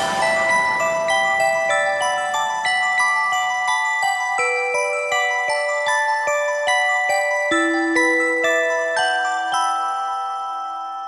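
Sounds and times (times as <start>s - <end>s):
bell-like mallet instrument notes: 0.0s - 11.0s.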